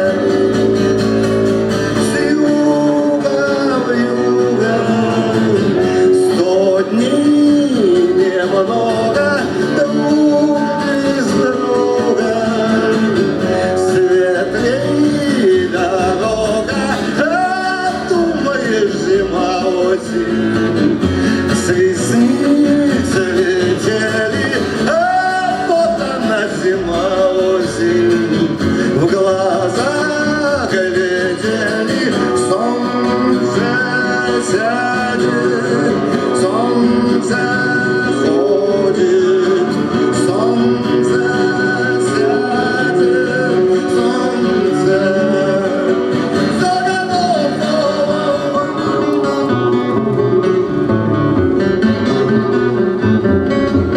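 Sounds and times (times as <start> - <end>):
guitar accompaniment: 0.0 - 53.9
man singing: 0.0 - 53.9.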